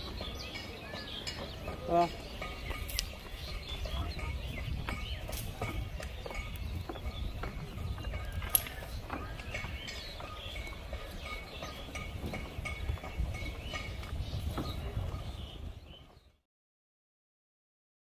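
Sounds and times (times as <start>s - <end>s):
high chirping calls: 0.0s - 16.4s.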